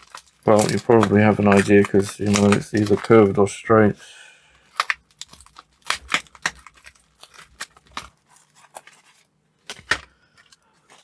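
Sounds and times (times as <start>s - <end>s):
plastic bag tearing and crinkling: 0.0s - 3.5s, 4.6s - 11.0s.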